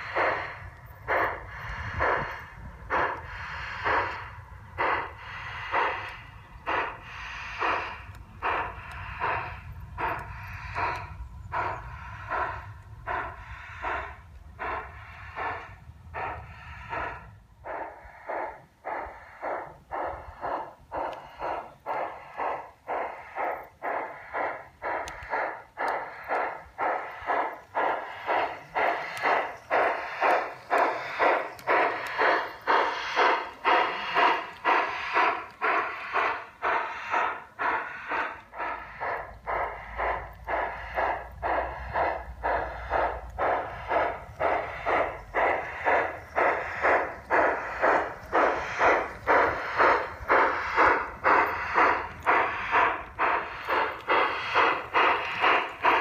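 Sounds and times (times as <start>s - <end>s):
model steam locomotive chuffing: 0.0s - 56.0s.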